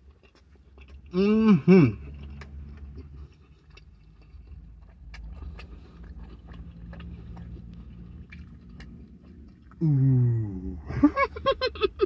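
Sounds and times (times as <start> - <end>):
person chewing food: 0.0 - 12.0
car hum: 0.1 - 12.0.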